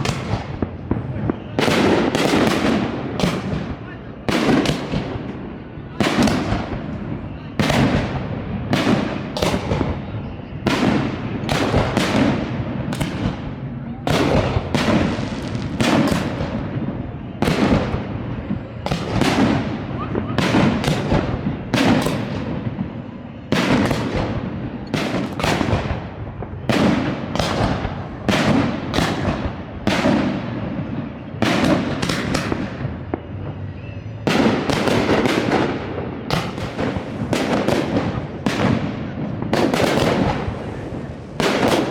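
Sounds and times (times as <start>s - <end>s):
fireworks bursting with echo: 0.0s - 41.9s.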